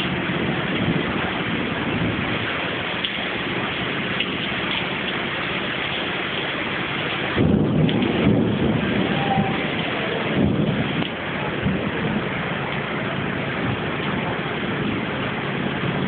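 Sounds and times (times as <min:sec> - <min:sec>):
heavy rain pouring: 0:00.0 - 0:16.0
low rumble: 0:00.0 - 0:16.0.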